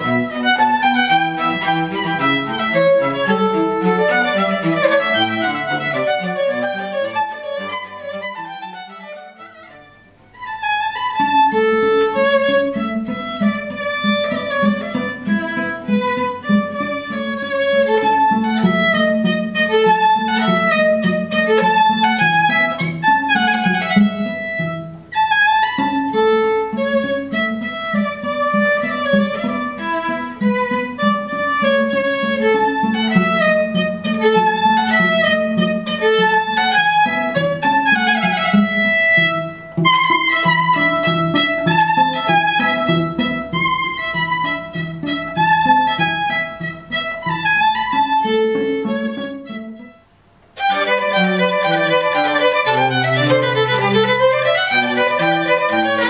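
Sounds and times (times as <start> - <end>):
cello accompaniment: 0.0 - 56.0
violin melody: 0.0 - 56.0.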